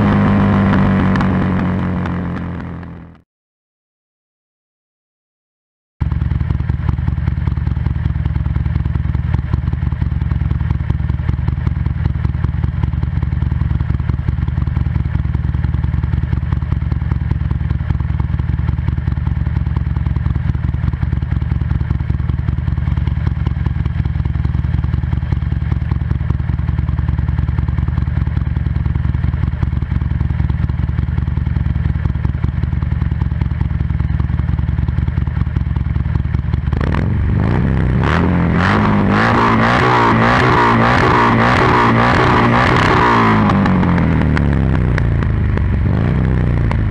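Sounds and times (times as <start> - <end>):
motorcycle engine running: 0.0 - 3.2, 6.0 - 46.9.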